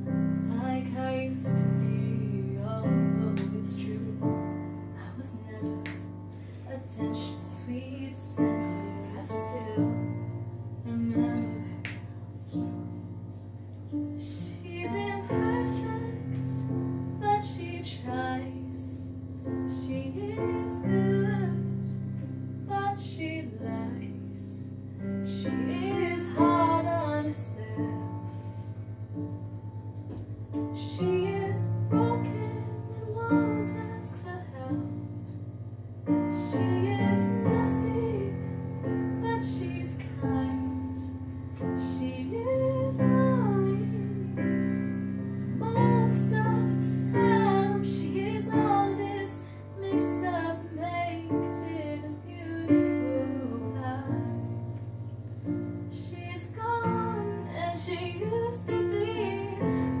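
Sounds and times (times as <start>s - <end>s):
piano chords: 0.0s - 60.0s
woman singing: 0.4s - 12.8s, 14.1s - 28.4s, 30.8s - 35.1s, 36.1s - 54.7s, 55.9s - 60.0s.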